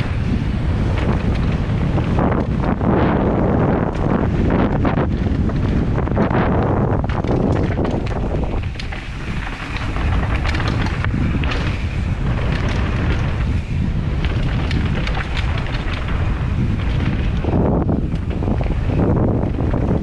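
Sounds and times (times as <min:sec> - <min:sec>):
bike chain and frame rattling: 0:00.0 - 0:20.0
wind buffeting microphone: 0:00.0 - 0:20.0.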